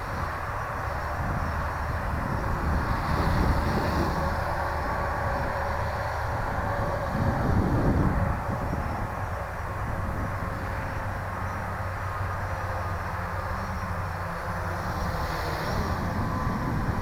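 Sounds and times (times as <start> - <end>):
quadcopter motors whining: 0.0 - 17.0
wind rumble on microphone: 0.0 - 17.0.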